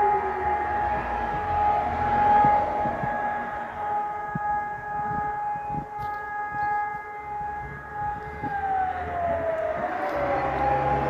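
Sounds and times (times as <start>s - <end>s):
civil defence siren steady tone: 0.0s - 11.0s.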